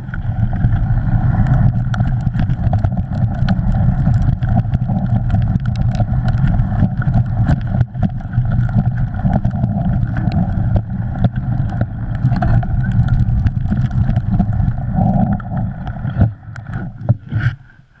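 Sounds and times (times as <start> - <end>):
tyres and wind rumble: 0.0 - 17.6.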